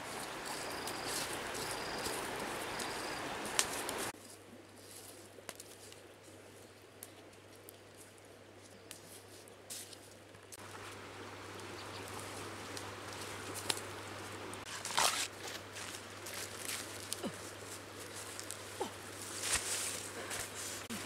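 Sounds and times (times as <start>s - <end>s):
loud leaf rustle: 0.0s - 5.2s, 9.1s - 21.0s
leaves rustling: 0.0s - 21.0s.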